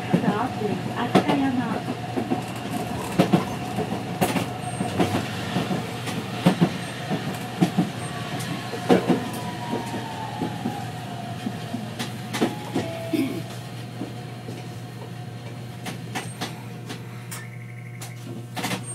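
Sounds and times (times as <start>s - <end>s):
streetcar running on rails: 0.0s - 18.9s
wheels clacking on track: 0.0s - 18.9s.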